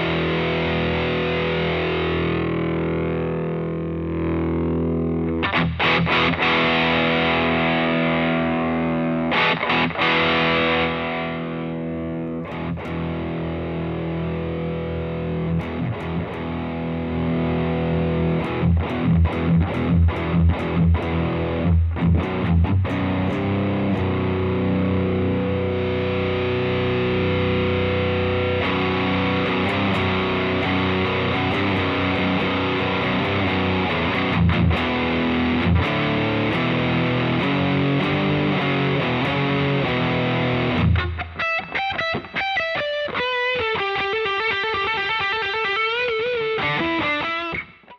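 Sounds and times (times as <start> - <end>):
distorted electric guitar: 0.0 - 47.9.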